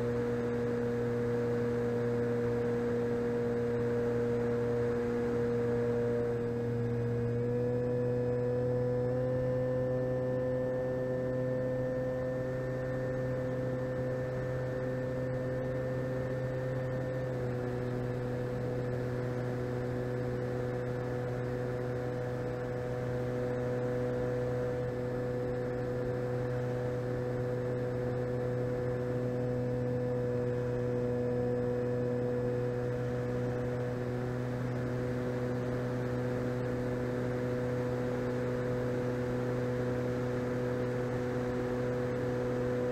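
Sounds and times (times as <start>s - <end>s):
electric motor and propeller hum: 0.0s - 42.9s.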